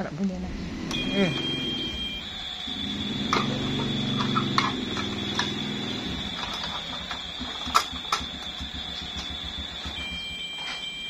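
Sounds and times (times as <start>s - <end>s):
low hum: 0.0s - 10.6s
steady high-pitched tone: 0.4s - 11.0s.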